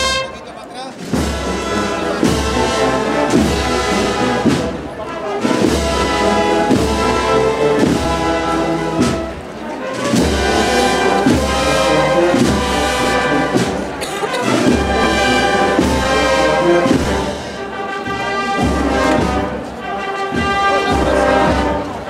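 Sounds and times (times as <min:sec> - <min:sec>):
sustained brass chords: 0:00.0 - 0:22.0
wind band playing a processional march: 0:00.0 - 0:22.0.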